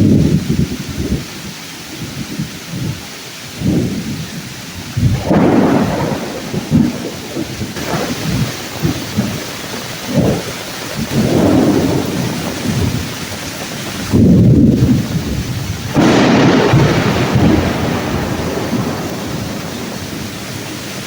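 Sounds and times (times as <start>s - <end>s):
heavy rain on leaves: 0.0s - 21.0s
thunder rumbling: 2.4s - 21.0s.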